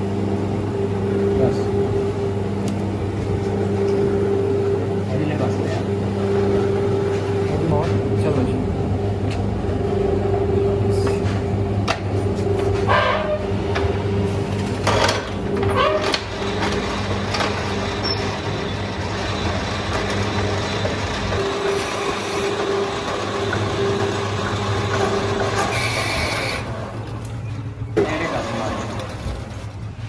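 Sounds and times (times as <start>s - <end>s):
lathe motor hum: 0.0s - 27.3s.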